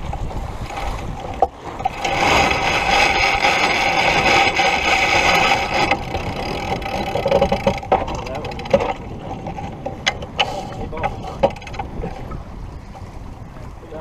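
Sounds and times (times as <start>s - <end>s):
sheet winch ratcheting: 0.6s - 12.4s.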